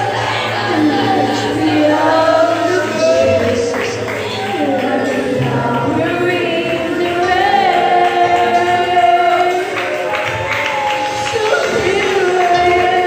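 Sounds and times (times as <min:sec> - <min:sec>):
youth choir singing gospel: 0:00.0 - 0:13.0.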